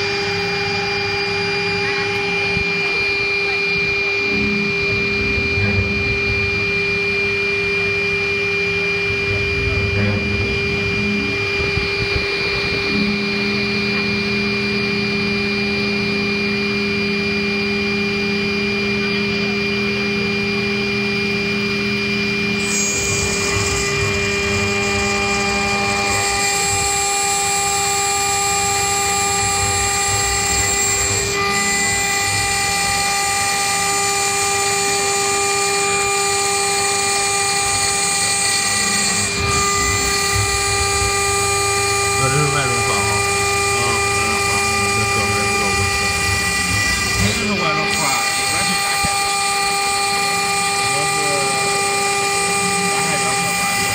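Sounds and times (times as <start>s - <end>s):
cnc spindle high whine: 0.0s - 53.9s
metal cutting noise: 0.0s - 53.9s.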